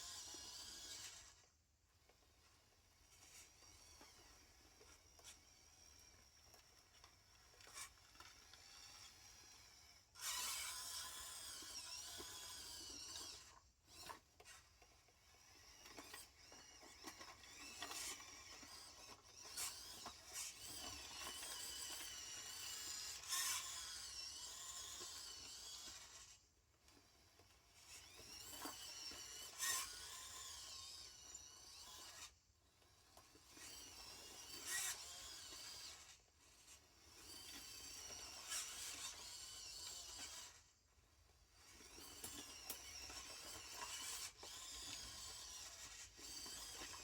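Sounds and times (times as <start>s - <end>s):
small electric motors whining: 0.0s - 47.0s.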